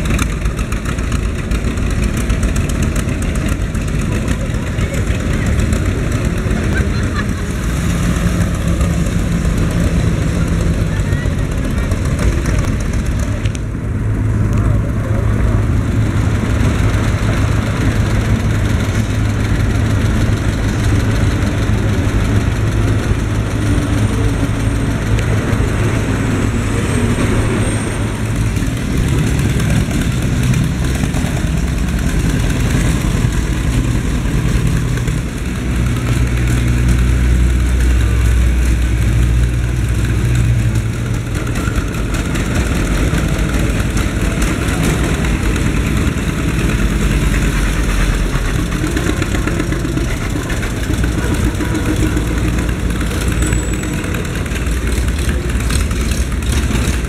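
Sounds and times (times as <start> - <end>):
deep loud tractor engine: 0.0 - 57.0
tractor engines driving past: 0.0 - 57.0.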